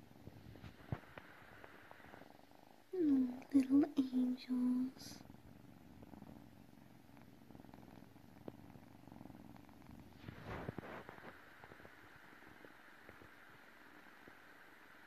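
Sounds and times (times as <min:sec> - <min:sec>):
kittens purring: 0:00.0 - 0:15.0.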